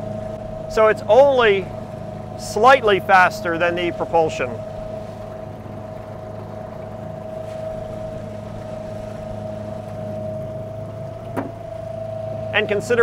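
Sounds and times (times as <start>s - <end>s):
electric outboard motor whine: 0.0s - 13.0s
water washing past hull: 0.0s - 13.0s.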